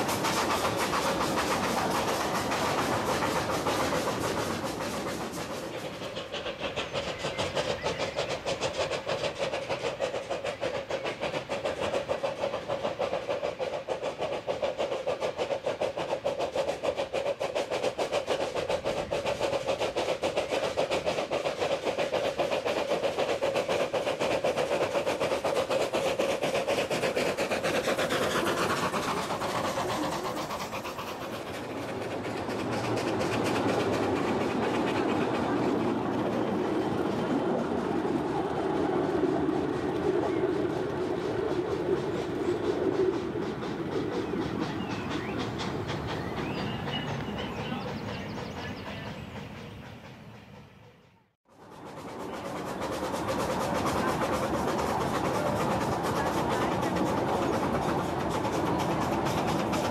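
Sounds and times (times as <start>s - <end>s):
miniature steam train running: 0.0s - 59.9s
wheels clickety-clack: 0.0s - 59.9s.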